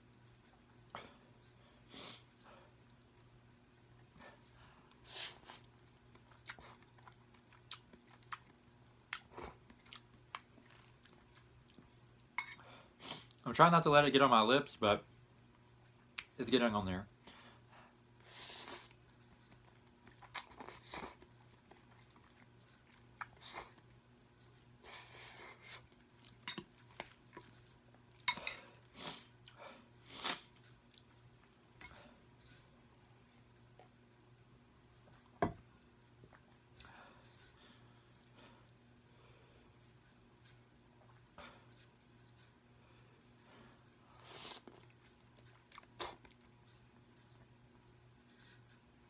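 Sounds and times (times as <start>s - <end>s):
chewing noodles: 2.3s - 12.4s, 18.2s - 49.0s.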